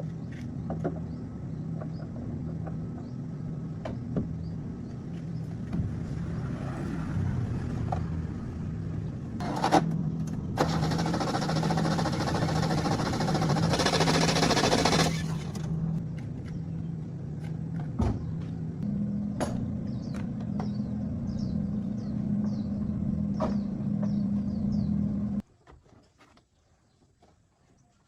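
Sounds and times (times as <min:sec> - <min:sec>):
machine rumbling and humming: 0:00.0 - 0:25.4.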